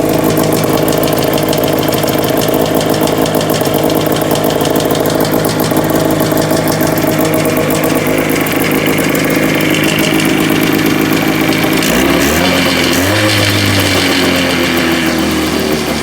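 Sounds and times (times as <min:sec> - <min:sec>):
two-stroke snowmobile engine running: 0:00.0 - 0:16.0.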